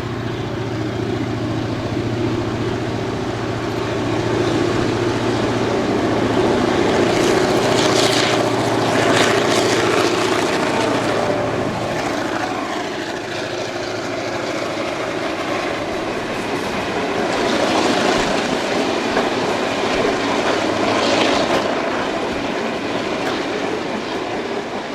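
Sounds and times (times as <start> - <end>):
locomotive engine hum: 0.0 - 24.9
wheels on rails: 0.0 - 24.9.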